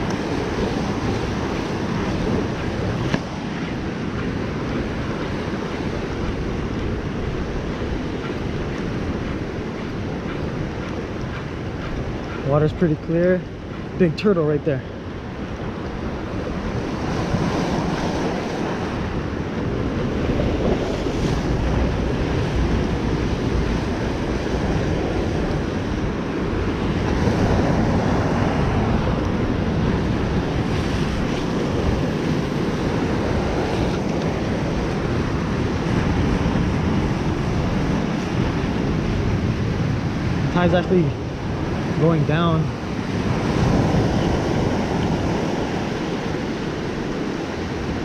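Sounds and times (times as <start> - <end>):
surf breaking on rocky shore: 0.0 - 48.0
wind buffeting microphone: 0.0 - 48.0.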